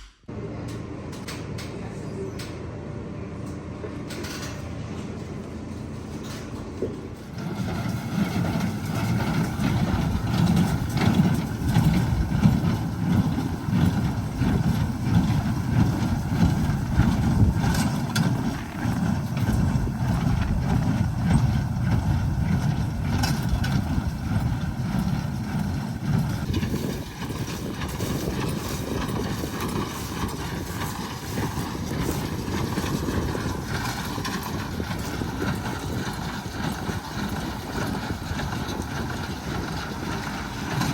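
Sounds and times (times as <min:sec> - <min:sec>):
tractor engine running: 0:00.0 - 0:40.9
machinery rattle: 0:03.4 - 0:40.9.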